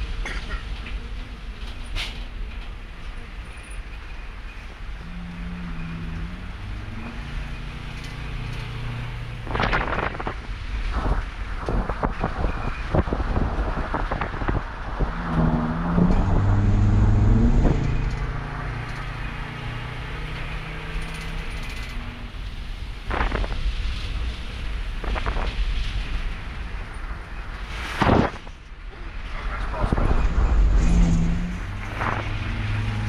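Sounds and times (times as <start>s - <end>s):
motor vehicle engine running: 0.0s - 33.0s.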